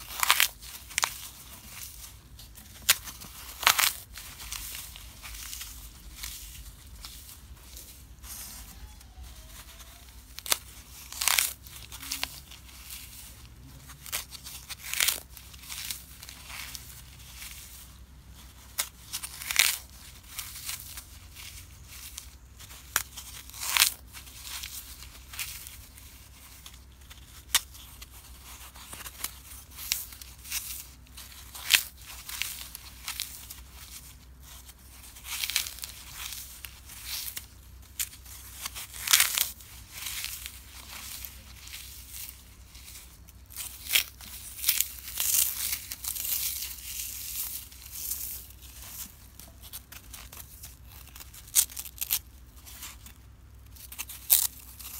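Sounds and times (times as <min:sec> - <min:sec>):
floral foam crunching: 0:00.0 - 0:54.9.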